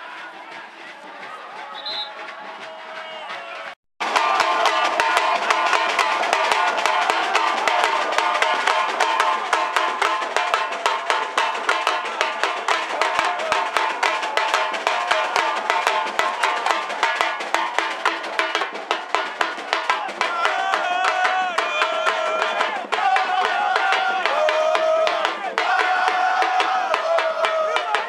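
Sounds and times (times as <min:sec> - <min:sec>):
drum band beating fast rhythm: 0:00.0 - 0:28.0
snare drum struck with sticks: 0:01.2 - 0:28.0.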